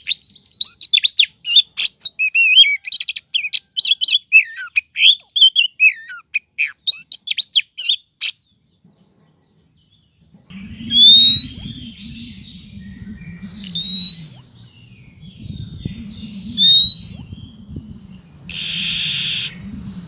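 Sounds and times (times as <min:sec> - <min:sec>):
bird chirps and whistles: 0:00.0 - 0:08.4, 0:10.6 - 0:17.6, 0:18.5 - 0:19.7.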